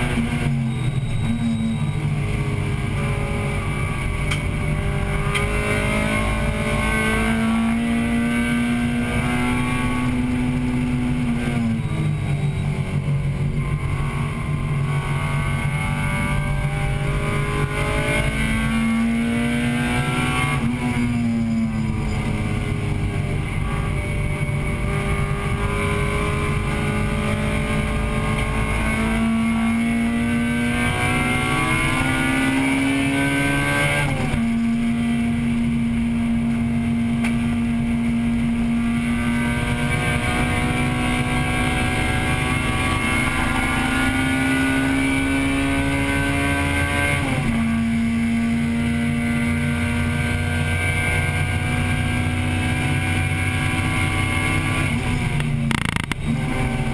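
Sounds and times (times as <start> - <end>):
road and wind rumble: 0.0 - 56.9
car engine revving hard: 1.6 - 12.1, 12.8 - 56.9.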